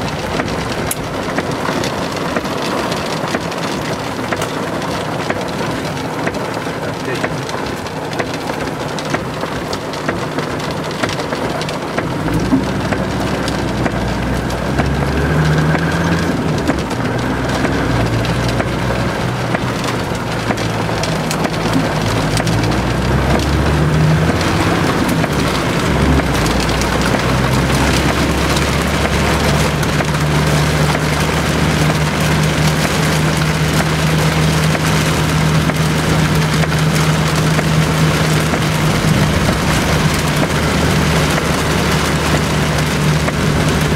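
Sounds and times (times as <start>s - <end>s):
car engine running: 0.0s - 43.9s
heavy rain on car roof: 0.0s - 43.9s.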